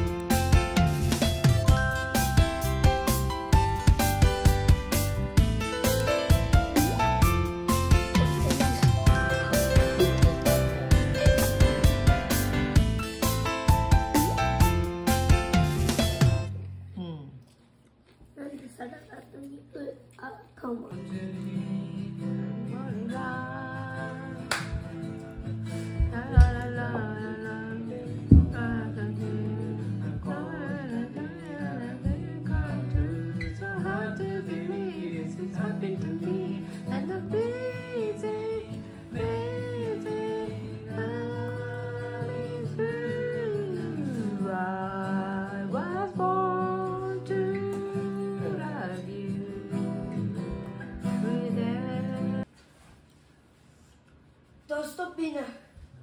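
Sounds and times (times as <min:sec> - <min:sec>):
acoustic guitar strumming: 0:00.0 - 0:16.6, 0:20.8 - 0:52.4.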